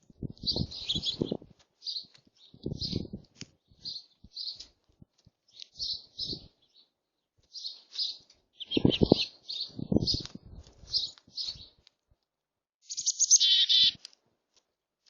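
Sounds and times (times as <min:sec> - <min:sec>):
small songbirds chirping: 0:00.0 - 0:11.9, 0:12.8 - 0:14.0.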